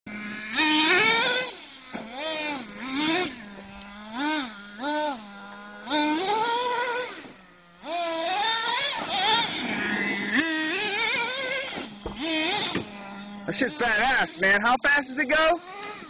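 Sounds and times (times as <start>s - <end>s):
model car engine idling and revving: 0.1s - 16.0s.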